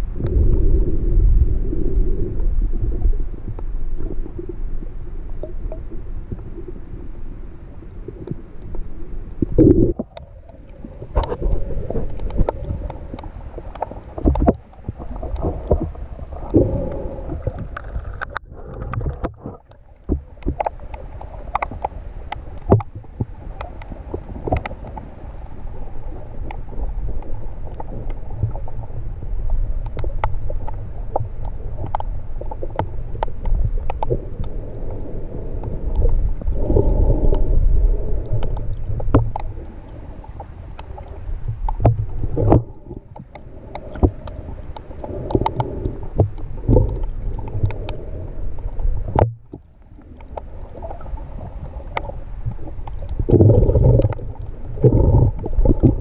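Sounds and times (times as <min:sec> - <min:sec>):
underwater rumbling water: 0:00.0 - 0:56.0
small clicks and crackles: 0:01.8 - 0:56.0.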